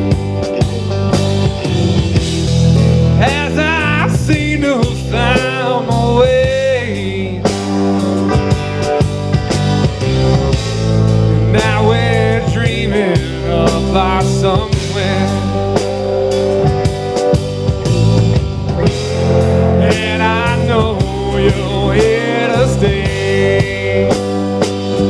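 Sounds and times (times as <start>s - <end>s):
blues-rock band playing: 0.0s - 25.0s
vibrato lead guitar line: 0.0s - 25.0s.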